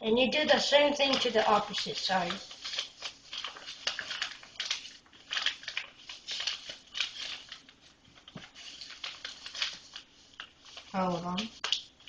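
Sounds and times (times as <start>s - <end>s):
paper rustling and crinkling: 0.4s - 12.0s.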